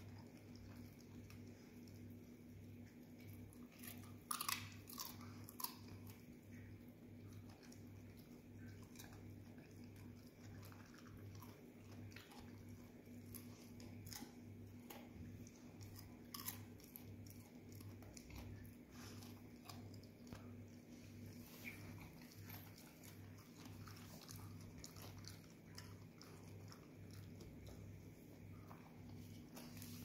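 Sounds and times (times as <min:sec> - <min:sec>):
dog chewing: 0:00.0 - 0:30.0.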